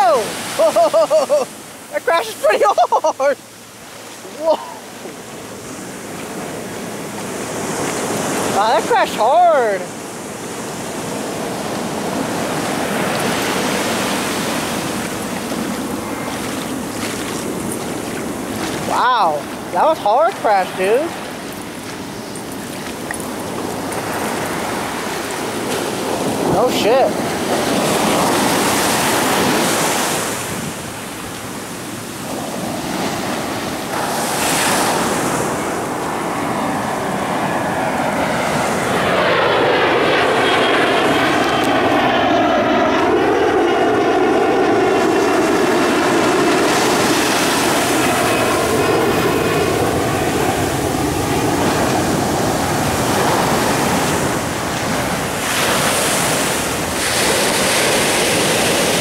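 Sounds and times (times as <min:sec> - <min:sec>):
jet plane passing overhead: 0:00.0 - 0:59.0
ocean surf breaking: 0:00.0 - 0:59.0.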